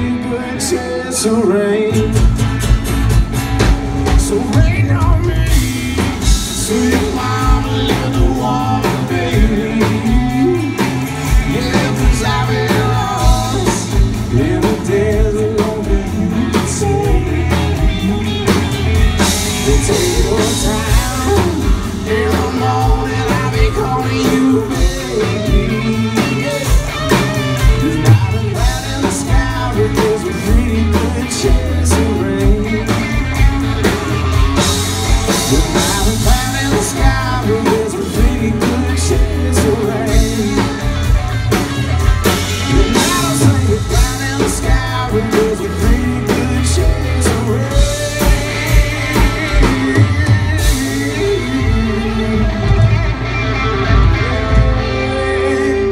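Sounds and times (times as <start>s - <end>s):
man singing: 0.0s - 2.8s, 3.9s - 53.2s, 53.8s - 55.9s
drum kit beat: 1.9s - 55.2s.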